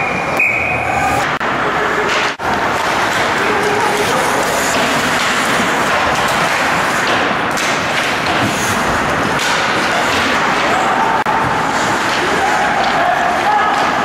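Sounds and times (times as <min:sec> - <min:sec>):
ice rink noise: 0:00.0 - 0:14.0
puck and stick thuds: 0:01.3 - 0:14.0.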